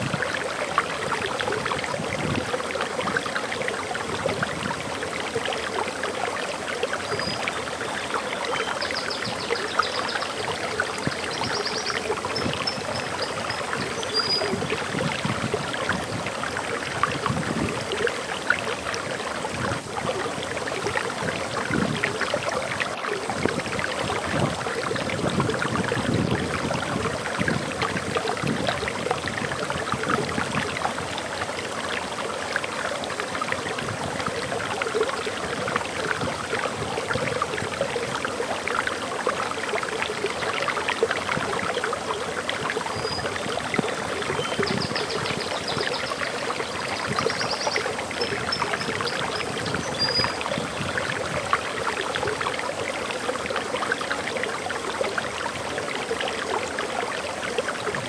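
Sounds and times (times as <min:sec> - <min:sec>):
water rushing over waterfall: 0:00.0 - 0:58.0.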